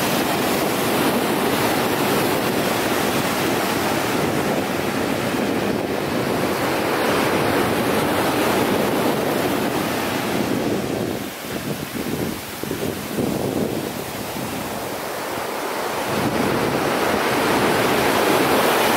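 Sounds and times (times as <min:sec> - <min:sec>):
surf breaking on a beach: 0:00.0 - 0:18.9
wind on microphone: 0:00.0 - 0:18.9.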